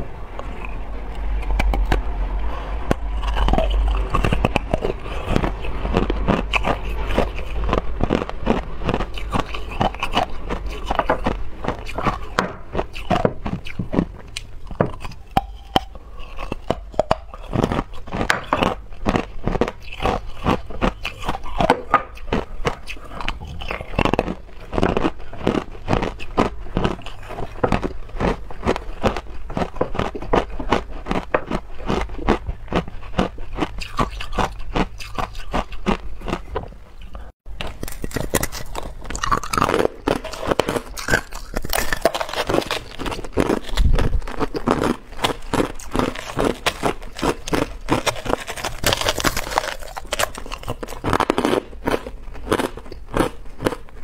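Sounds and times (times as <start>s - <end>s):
ice crunching being chewed: 0.4s - 54.0s.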